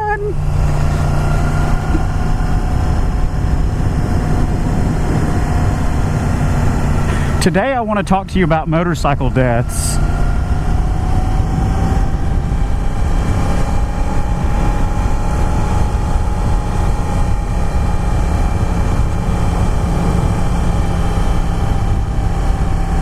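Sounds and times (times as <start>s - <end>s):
motorcycle engine cruising: 0.0s - 23.0s
wind rush on microphone: 0.0s - 23.0s.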